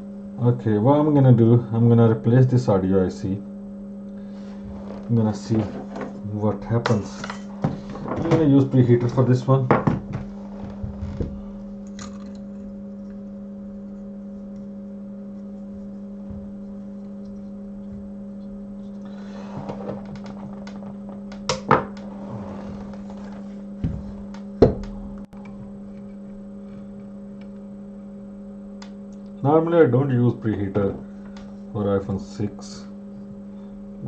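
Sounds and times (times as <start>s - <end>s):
electrical hum: 0.0s - 34.0s.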